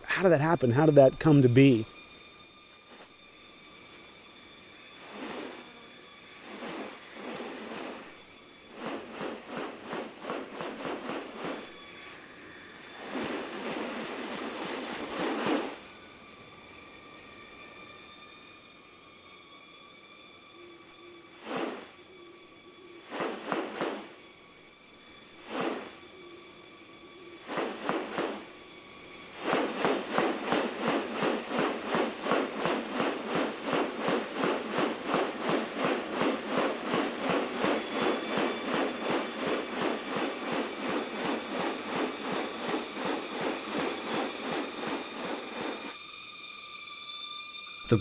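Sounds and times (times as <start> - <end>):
insect drone: 0.0 - 48.0.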